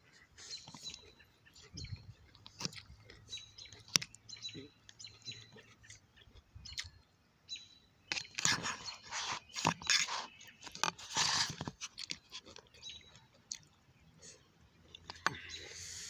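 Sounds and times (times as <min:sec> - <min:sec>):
person chewing vegetables: 0:00.1 - 0:07.0, 0:08.1 - 0:15.7.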